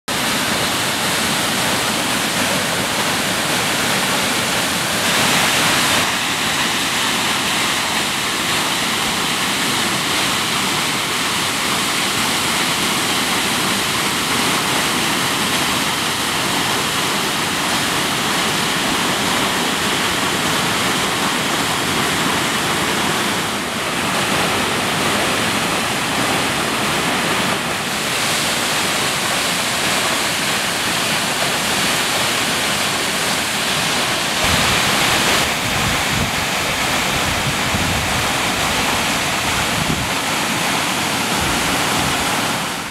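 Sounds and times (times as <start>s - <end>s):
waterfall rushing: 0.1s - 42.9s.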